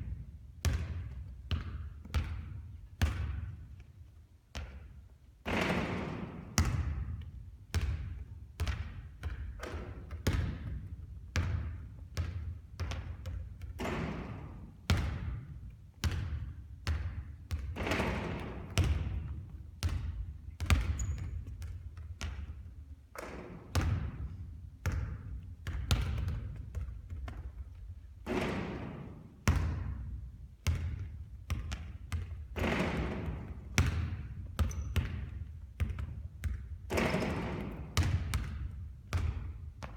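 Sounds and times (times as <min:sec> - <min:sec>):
basketballs bouncing on a court: 0:00.0 - 0:39.9.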